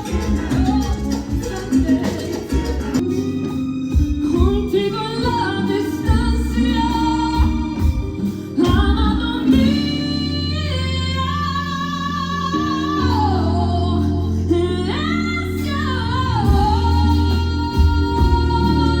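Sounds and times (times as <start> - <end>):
pop song with woman singing: 0.0 - 19.0.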